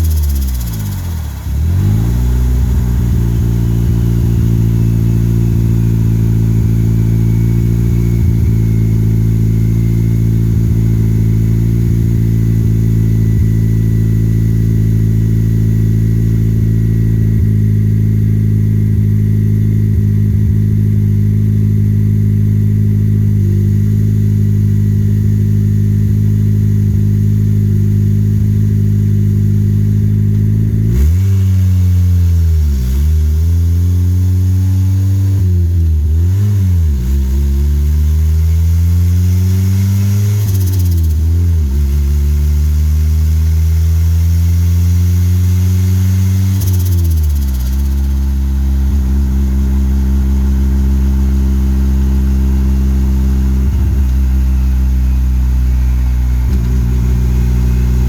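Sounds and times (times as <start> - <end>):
car engine at steady revs: 0.0 - 58.0.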